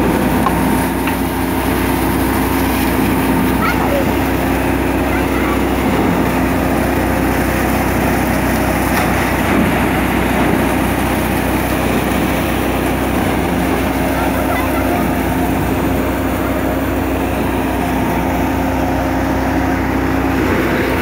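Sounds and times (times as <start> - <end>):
straw and grain rushing: 0.0 - 21.0
thresher machine whirring: 0.0 - 21.0
tractor engine running: 0.0 - 21.0.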